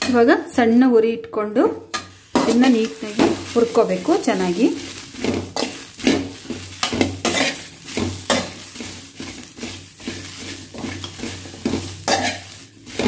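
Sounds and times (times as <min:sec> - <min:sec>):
spatula scraping a pan: 0:01.9 - 0:13.0.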